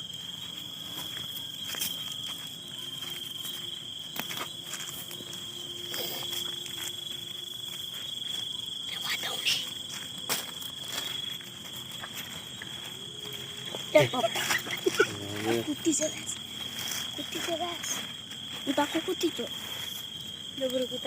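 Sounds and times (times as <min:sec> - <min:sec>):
crickets trilling: 0:00.0 - 0:21.0
shuffling sounds: 0:00.0 - 0:21.0.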